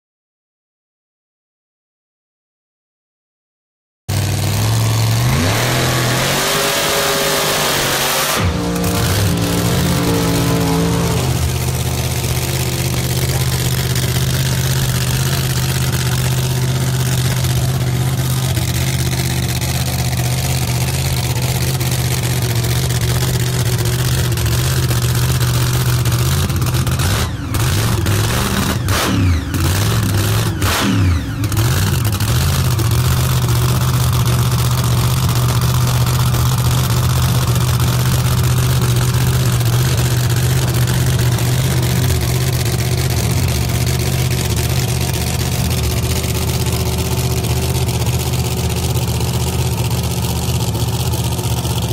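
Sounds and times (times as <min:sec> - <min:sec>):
truck engine idling and revving: 0:04.1 - 0:51.9.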